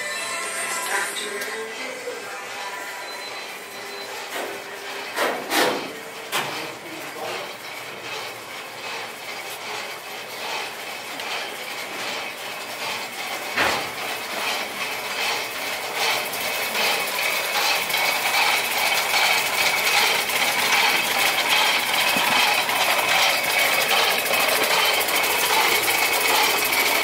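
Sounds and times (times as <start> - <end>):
engine idling: 1.0 - 27.0.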